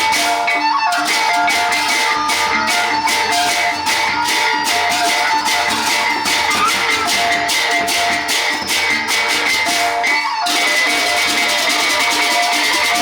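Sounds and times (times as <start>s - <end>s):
cymbals clashing: 0.0s - 13.0s
drums: 0.0s - 13.0s
ringing metal tones: 0.0s - 13.0s.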